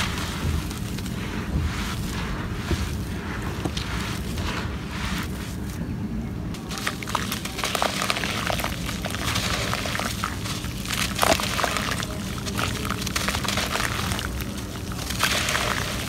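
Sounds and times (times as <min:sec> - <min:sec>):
soil crumbling by hand: 0:00.0 - 0:05.8, 0:06.5 - 0:16.0.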